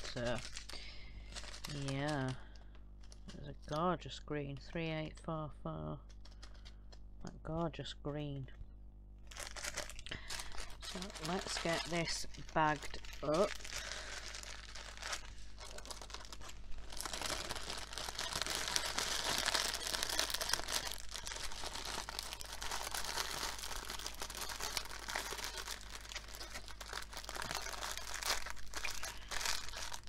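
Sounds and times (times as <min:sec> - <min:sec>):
plastic bags crinkling: 0:00.0 - 0:03.9, 0:06.1 - 0:06.7, 0:09.2 - 0:30.0.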